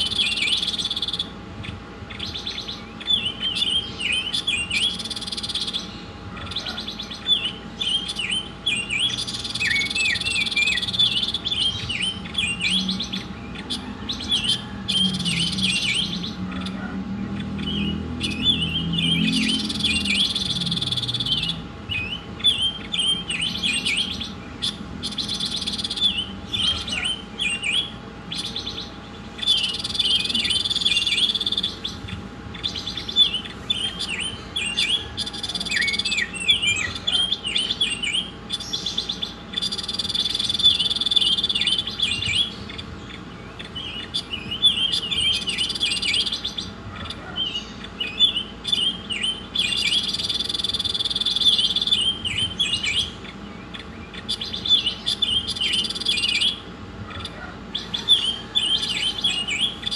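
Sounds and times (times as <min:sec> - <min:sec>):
faint steady hum: 0:00.0 - 0:59.9
songbird chirping and trilling: 0:00.0 - 0:59.9.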